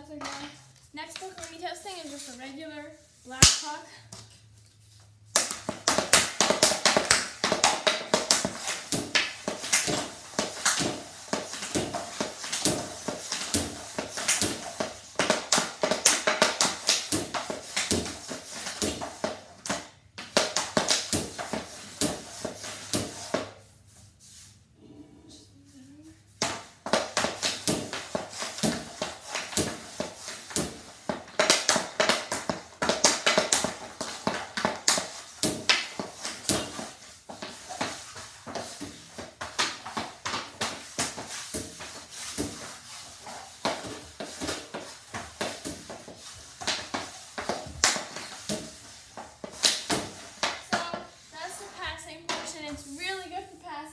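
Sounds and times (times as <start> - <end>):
hockey stick clacking puck: 5.4 - 23.5, 26.4 - 52.8.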